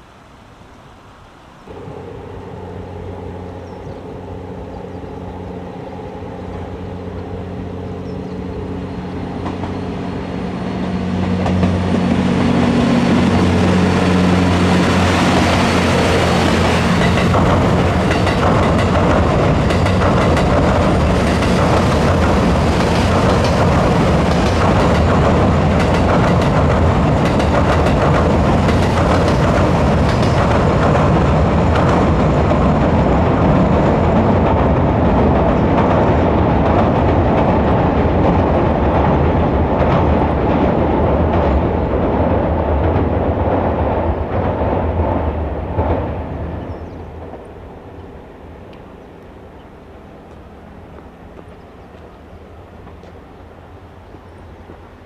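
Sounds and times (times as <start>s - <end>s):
train engine drone: 0.0s - 55.0s
train wheels rolling on rails: 1.6s - 55.0s.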